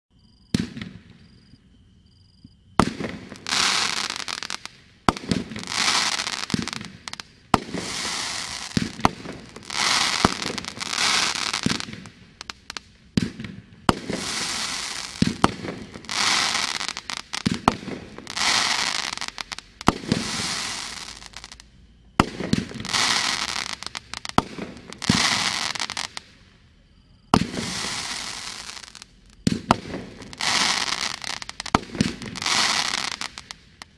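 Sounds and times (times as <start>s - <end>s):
firework stars hissing and crackling: 2.8s - 26.5s, 27.3s - 33.9s.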